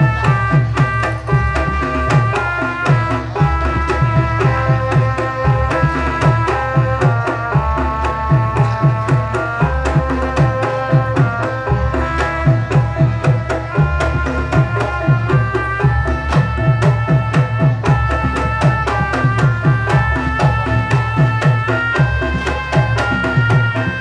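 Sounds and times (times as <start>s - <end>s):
hand drum strokes: 0.0s - 24.0s.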